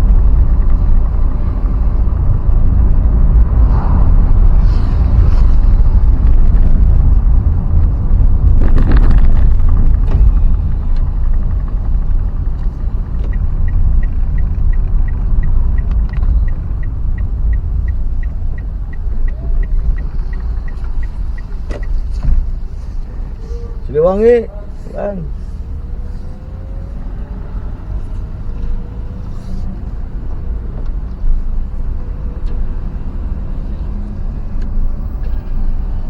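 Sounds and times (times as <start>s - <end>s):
turn signal beeping: 0.0s - 36.0s
vehicle rumble and road noise: 0.0s - 36.0s
wind: 0.0s - 36.0s.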